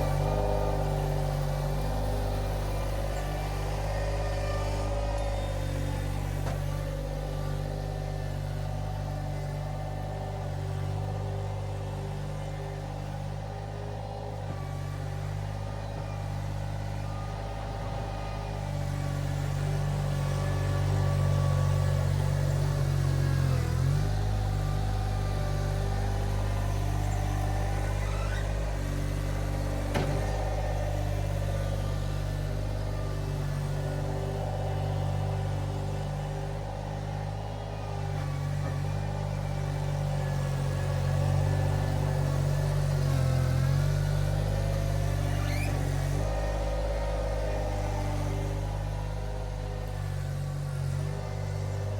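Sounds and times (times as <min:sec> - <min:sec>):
skid steer engine running: 0:00.0 - 0:51.9.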